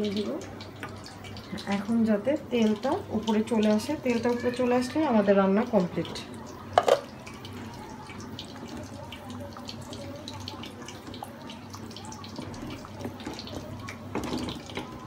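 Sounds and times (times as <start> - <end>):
curry bubbling in a pot: 0.0 - 15.0.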